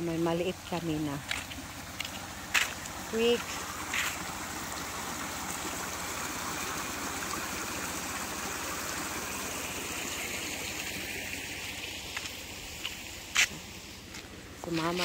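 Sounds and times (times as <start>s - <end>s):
creek water splashing over stones: 0.0s - 15.0s.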